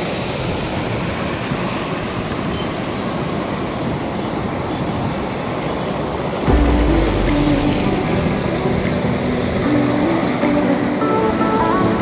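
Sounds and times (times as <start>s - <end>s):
fast river rushing: 0.0s - 12.0s.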